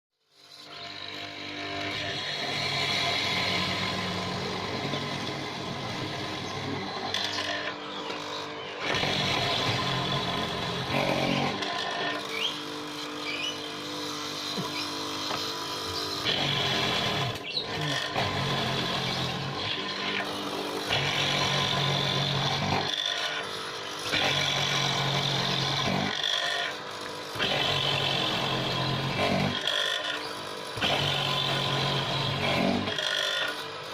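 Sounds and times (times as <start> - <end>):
mortising machine motor running: 0.3 - 33.9.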